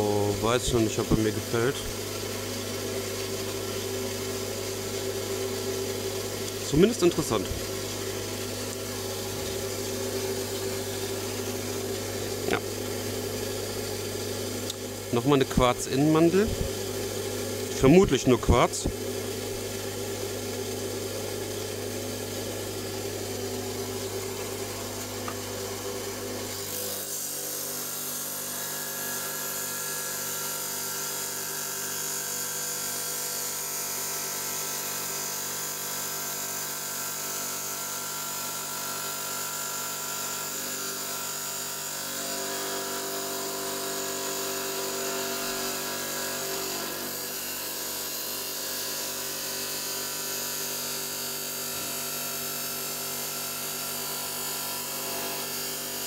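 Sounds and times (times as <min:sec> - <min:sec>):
electric stone saw cutting: 0:00.0 - 0:56.0.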